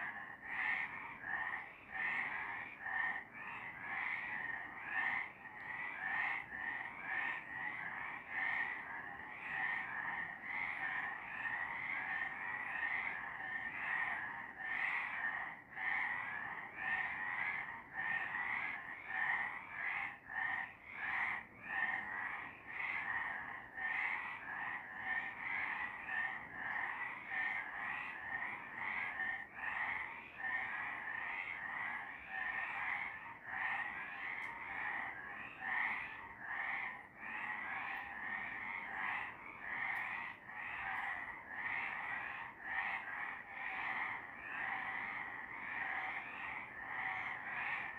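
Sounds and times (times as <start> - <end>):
frogs calling: 0.0 - 47.9.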